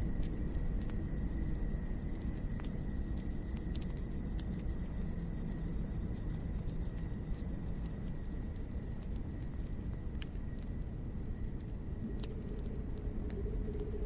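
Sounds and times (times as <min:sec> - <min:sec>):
crickets chirping: 0:00.0 - 0:14.0
fire crackling and popping: 0:00.0 - 0:14.0
wood fire rumble: 0:00.0 - 0:14.0.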